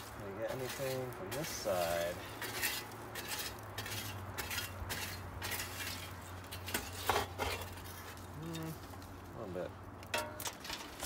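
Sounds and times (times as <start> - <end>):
shovel scraping and clinking: 0.0 - 8.8, 10.1 - 11.0.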